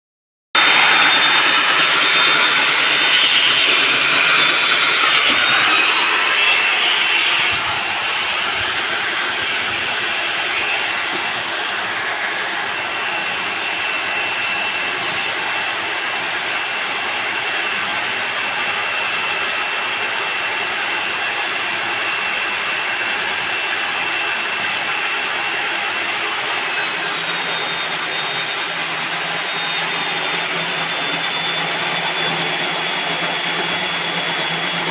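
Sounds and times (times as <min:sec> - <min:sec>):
core drill grinding concrete: 0:00.6 - 0:34.9.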